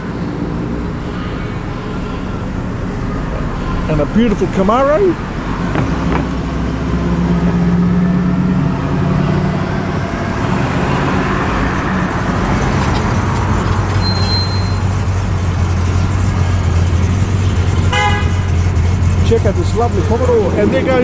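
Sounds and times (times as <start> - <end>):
car engine driving out: 0.0 - 21.0
other car engines: 0.0 - 21.0.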